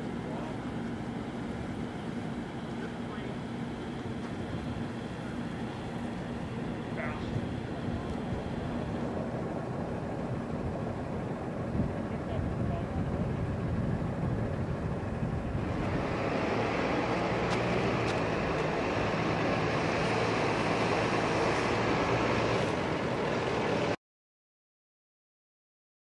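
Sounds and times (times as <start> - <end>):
steady outdoor rushing noise: 0.0 - 24.0.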